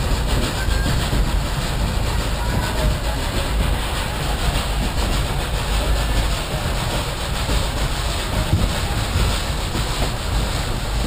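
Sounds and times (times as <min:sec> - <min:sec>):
train running along rails: 0:00.0 - 0:11.0.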